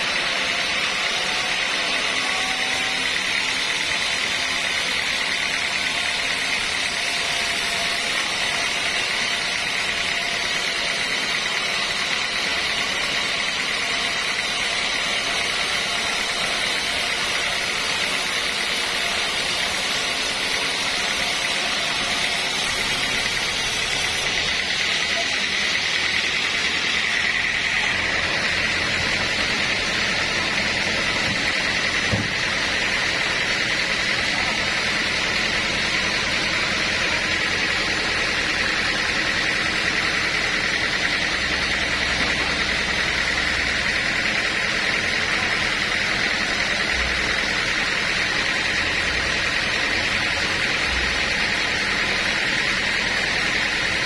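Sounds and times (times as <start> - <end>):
sawmill machinery hissing whine: 0.0 - 54.0.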